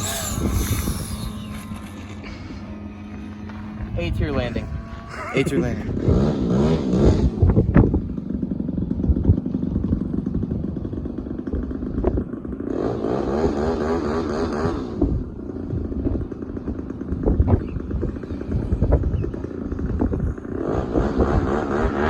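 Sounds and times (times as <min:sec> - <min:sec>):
model airplane motor and propeller: 0:00.0 - 0:22.0.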